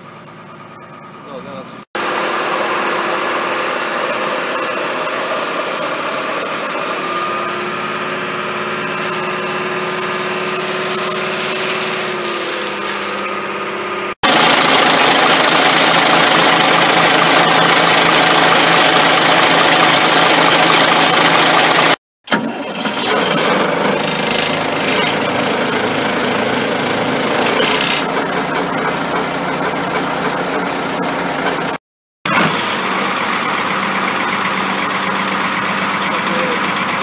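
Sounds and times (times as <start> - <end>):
diesel engine idling: 0.0 - 22.6, 23.6 - 31.8, 32.5 - 37.0.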